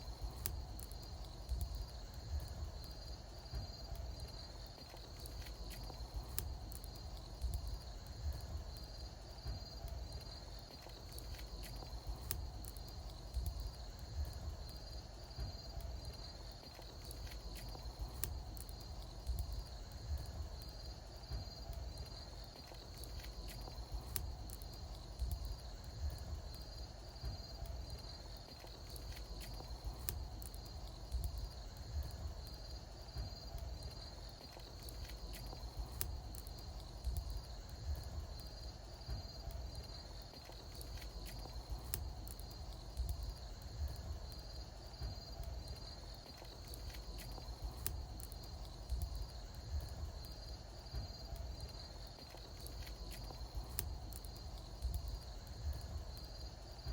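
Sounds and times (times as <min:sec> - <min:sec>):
bonfire crackling and popping: 0:00.0 - 0:56.9
crickets chirping: 0:00.0 - 0:56.9.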